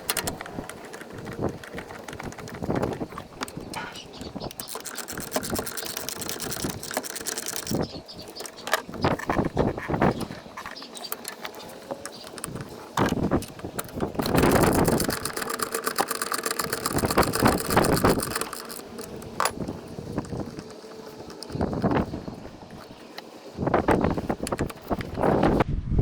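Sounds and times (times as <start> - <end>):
metal tool clicks: 0.0 - 25.2.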